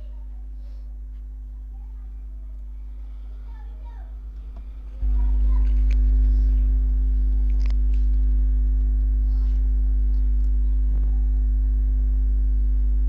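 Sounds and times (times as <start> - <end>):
faint steady tone: 0.0 - 13.0
low electrical hum: 0.0 - 13.0.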